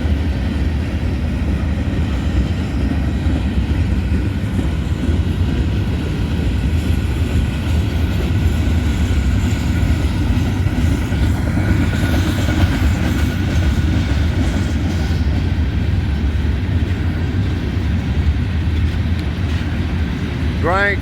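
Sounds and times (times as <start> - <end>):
freight train rumbling past: 0.0 - 21.0
steel wheels clattering on rail joints: 0.0 - 21.0.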